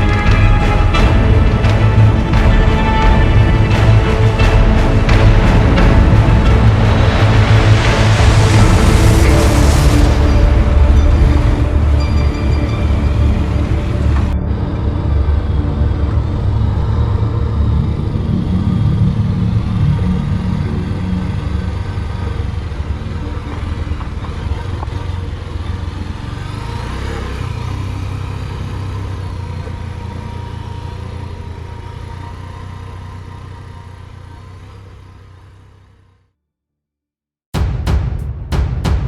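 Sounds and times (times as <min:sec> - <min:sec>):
motorcycle engine running: 0:00.0 - 0:36.3.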